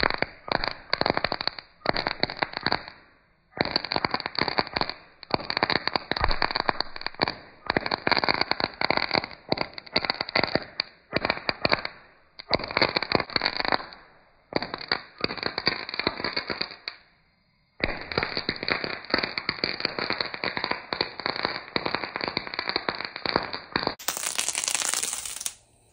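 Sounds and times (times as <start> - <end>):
pyrotechnic sticks crackling: 0.0 - 3.0, 3.6 - 17.0, 17.8 - 25.9.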